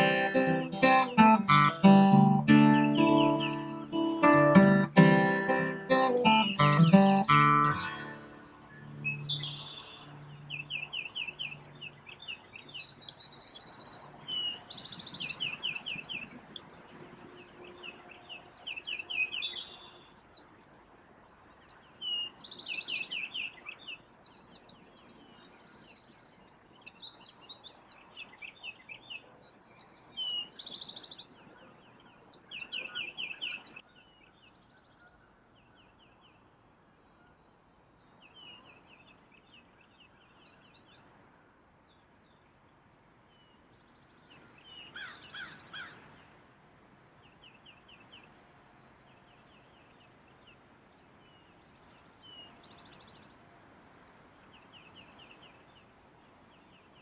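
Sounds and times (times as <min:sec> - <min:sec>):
songbirds singing trilled phrases: 0:00.0 - 0:41.2, 0:41.8 - 0:46.4, 0:47.1 - 0:57.0
faint outdoor background noise: 0:00.0 - 0:57.0.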